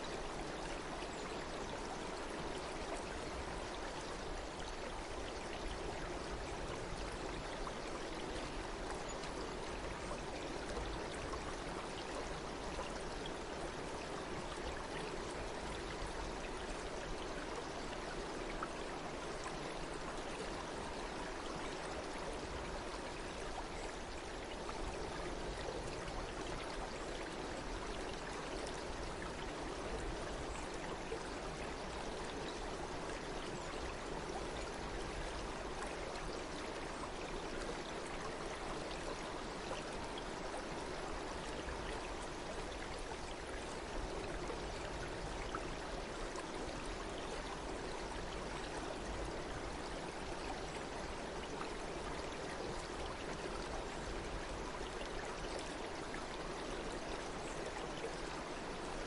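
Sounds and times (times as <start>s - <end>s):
stream water rushing: 1.8s - 59.0s.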